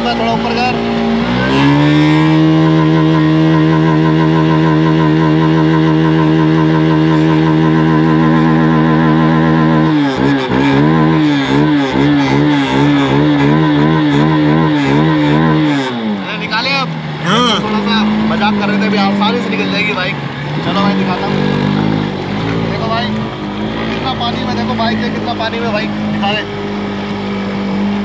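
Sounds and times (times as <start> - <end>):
motorcycle engine at high revs: 0.0 - 28.0.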